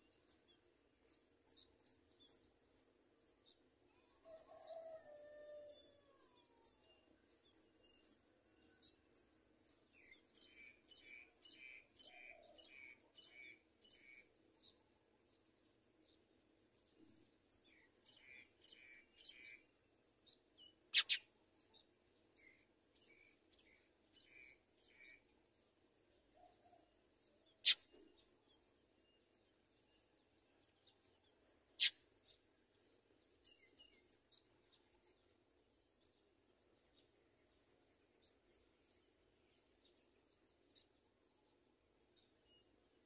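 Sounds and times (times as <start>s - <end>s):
sparrows chirping: 0.0s - 43.0s.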